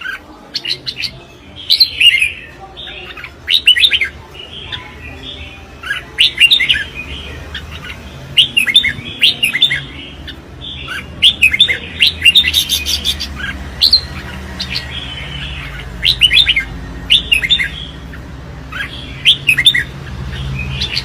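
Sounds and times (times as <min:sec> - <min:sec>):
birds singing whistled phrases: 0:00.0 - 0:21.0.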